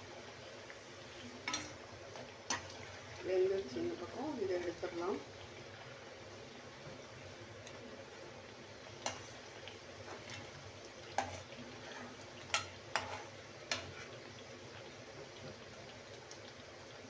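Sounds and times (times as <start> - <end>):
deep-frying sizzle in oil: 0.0 - 17.0.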